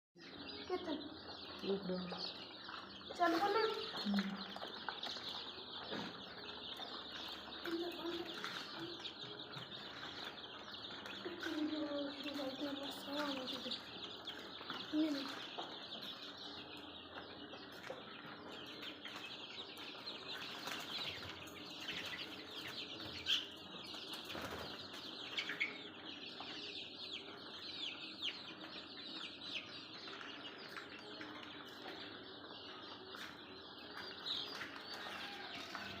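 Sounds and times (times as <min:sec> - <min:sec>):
chicks peeping: 0:00.2 - 0:36.0.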